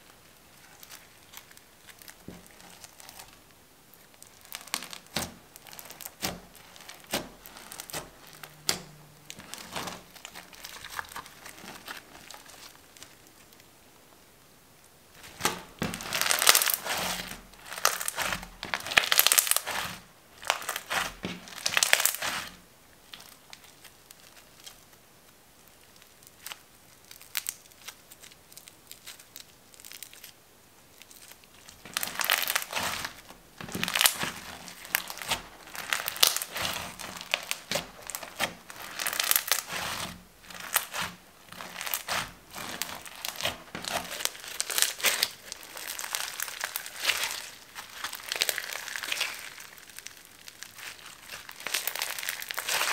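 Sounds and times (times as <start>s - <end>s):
crunchy slime crackling: 0.0s - 13.7s, 15.1s - 52.9s.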